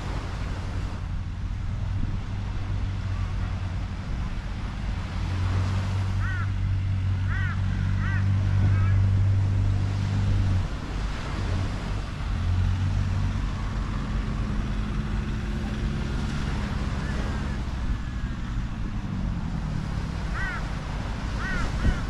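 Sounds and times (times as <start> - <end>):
vehicle engines humming: 0.0 - 22.0
wind and surf: 0.0 - 22.0.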